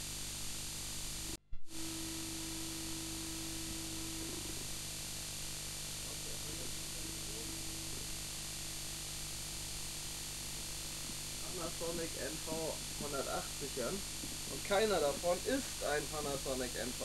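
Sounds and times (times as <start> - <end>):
tape hiss: 0.0 - 17.0
steady tone: 1.8 - 9.0, 10.6 - 17.0.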